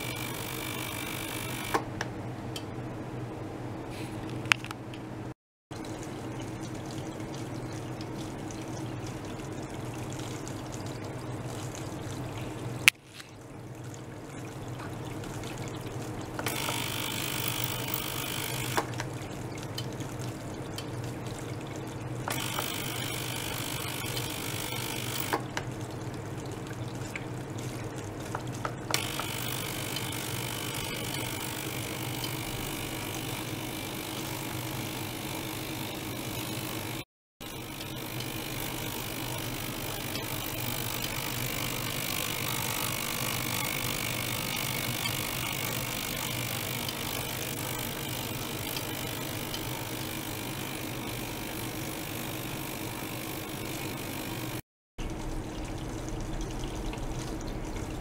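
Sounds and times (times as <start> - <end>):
pump humming: 0.0 - 4.5, 5.1 - 58.0
water pouring and trickling: 5.7 - 58.0.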